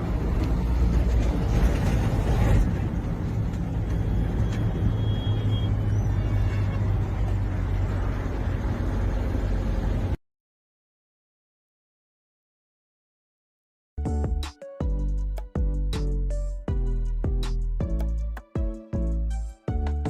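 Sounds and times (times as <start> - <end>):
vehicle engine and road rumble: 0.0 - 10.2, 14.0 - 20.0.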